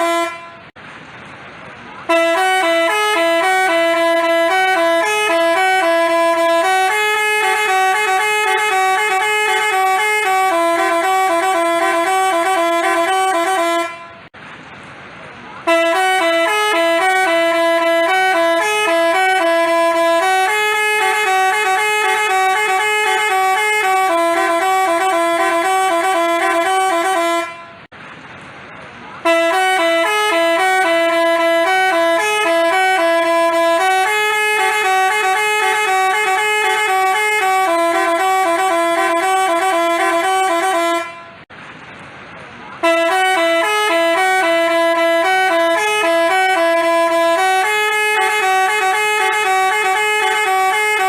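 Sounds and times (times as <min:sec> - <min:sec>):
multi-trumpet bus horn melody: 0:00.0 - 0:00.8, 0:02.0 - 0:14.4, 0:15.6 - 0:27.9, 0:29.2 - 0:41.5, 0:42.8 - 0:51.0.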